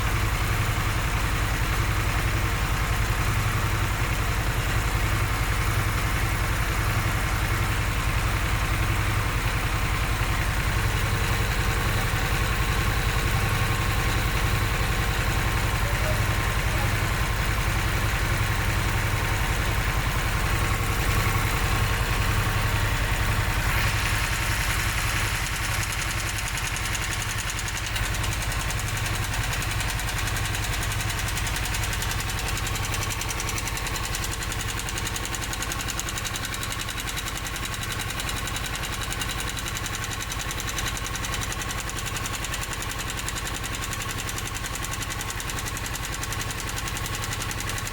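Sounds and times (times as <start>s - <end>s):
engine ticking and knocking: 0.0s - 47.9s
motorcycle engine idling: 0.0s - 47.9s.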